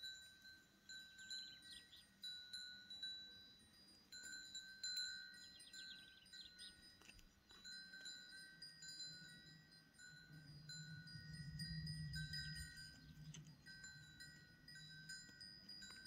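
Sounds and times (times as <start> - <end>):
faint high chiming tones: 0.0 - 16.0.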